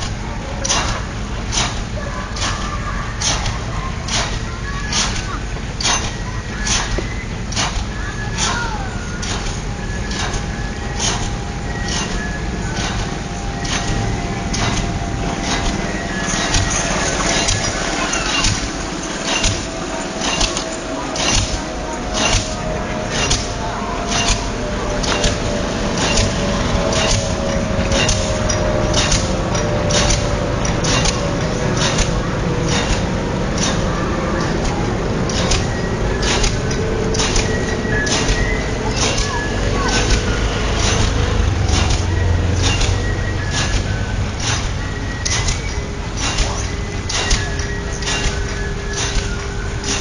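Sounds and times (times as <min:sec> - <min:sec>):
low machinery rumble: 0:00.0 - 0:50.0
pile driver clanking blows: 0:00.0 - 0:50.0.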